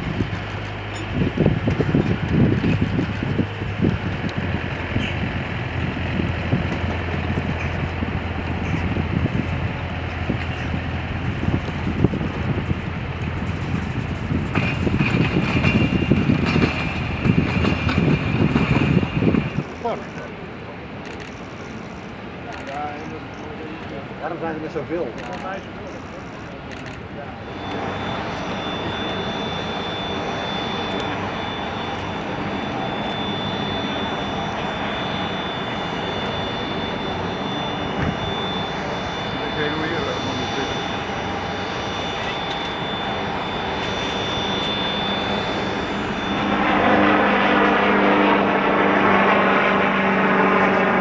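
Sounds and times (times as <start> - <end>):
high-pitched whine: 0.0 - 23.8, 25.2 - 51.0.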